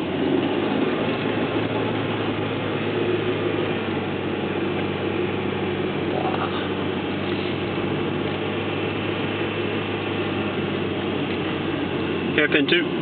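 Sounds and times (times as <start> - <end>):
car engine running steadily: 0.0 - 13.0
road and tyre noise: 0.0 - 13.0.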